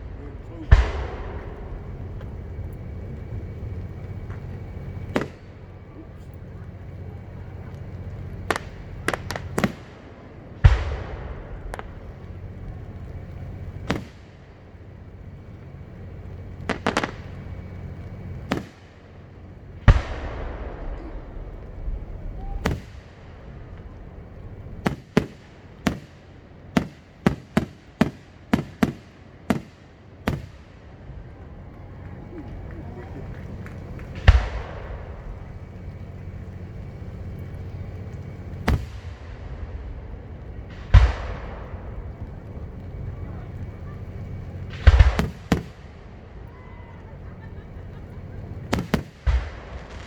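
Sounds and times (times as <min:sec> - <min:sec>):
fireworks bangs: 0:00.0 - 0:50.0
fireworks booms with crackling tails: 0:00.0 - 0:50.0.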